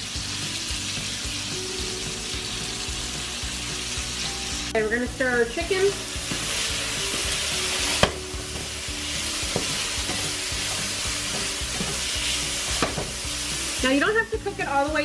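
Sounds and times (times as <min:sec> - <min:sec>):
meat sizzling in grease: 0:00.0 - 0:15.0.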